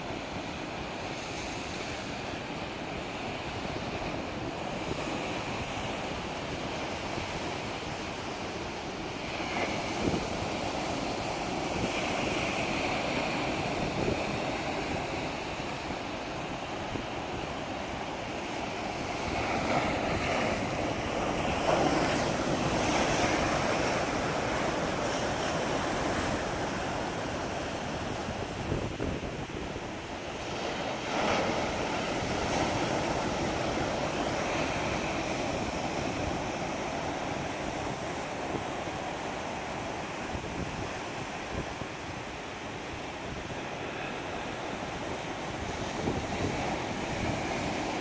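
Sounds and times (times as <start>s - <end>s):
sea waves breaking on shore: 0.0s - 48.0s
wind buffeting microphone: 1.7s - 48.0s.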